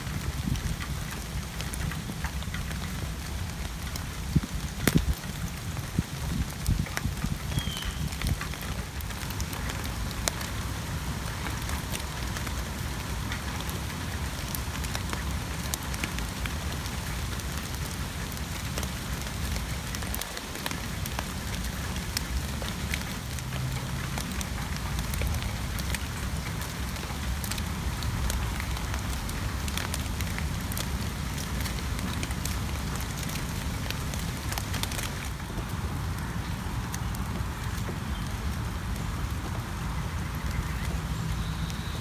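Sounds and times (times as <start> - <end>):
rain on leaves: 0.0 - 42.0.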